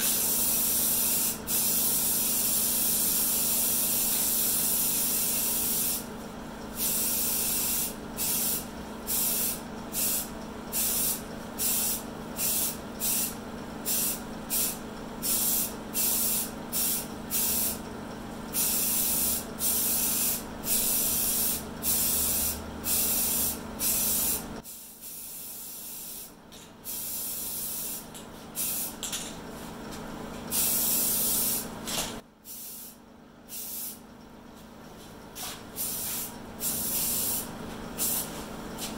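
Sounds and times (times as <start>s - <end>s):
spray gun hissing: 0.0s - 6.1s, 6.8s - 17.8s, 18.6s - 26.3s, 26.9s - 29.0s, 30.5s - 31.7s, 32.5s - 34.0s, 35.4s - 38.5s
steady hum: 0.0s - 38.9s.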